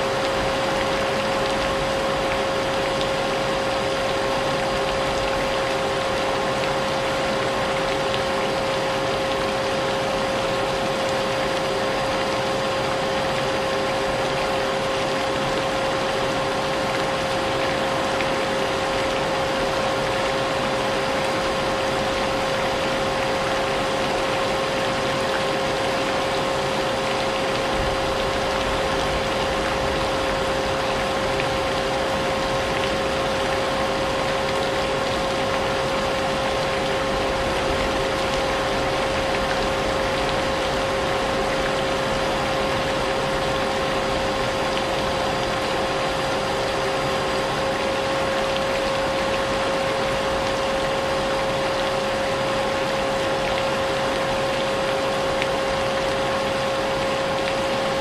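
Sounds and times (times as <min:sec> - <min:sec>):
rain: 0:00.0 - 0:58.0.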